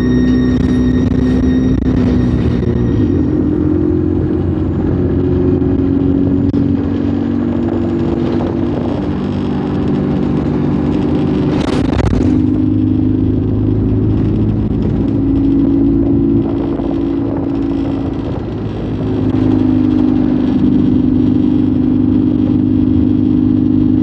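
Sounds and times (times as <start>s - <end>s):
burst of noise: 0.0s - 24.0s
bus diesel engine running: 0.0s - 24.0s.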